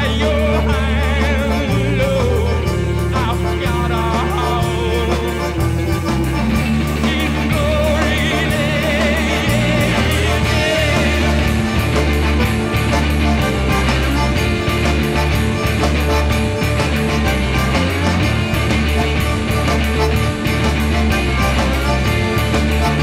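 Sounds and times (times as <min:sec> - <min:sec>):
live country rock band: 0:00.0 - 0:23.0.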